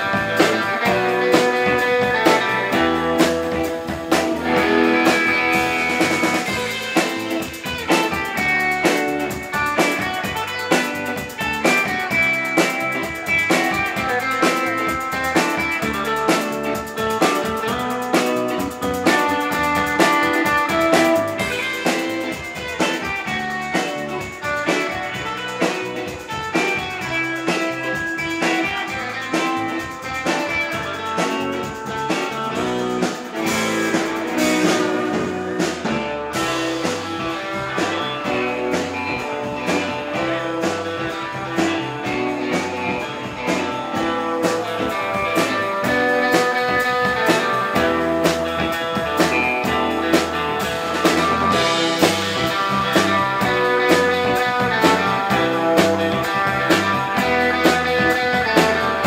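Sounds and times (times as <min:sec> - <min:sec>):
drum kit steady beat: 0:00.0 - 0:59.0
twangy electric guitar lead: 0:00.0 - 0:59.0.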